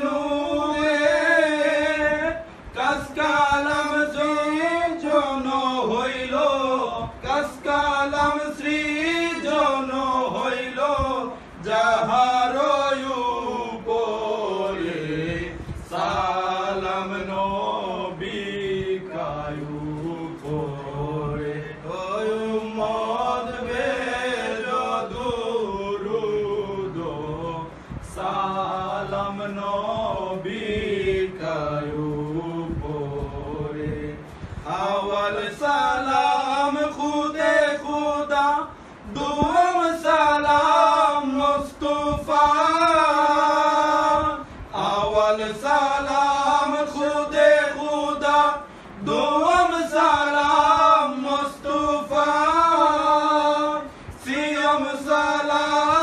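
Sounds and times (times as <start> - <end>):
men chanting: 0.0 - 56.0.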